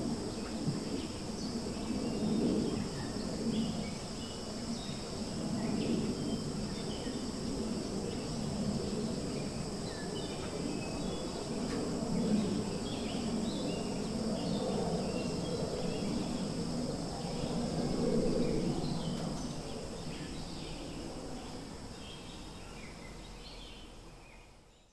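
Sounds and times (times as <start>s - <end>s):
high insect drone: 0.0s - 24.7s.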